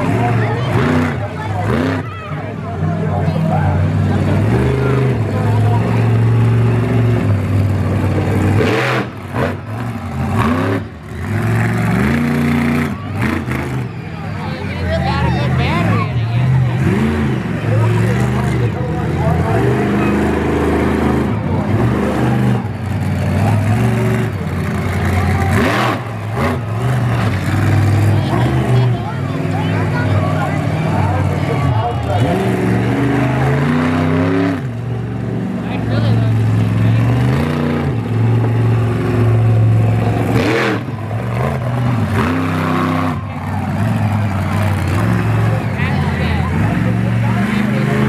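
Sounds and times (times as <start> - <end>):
truck engine revving: 0.0 - 48.0.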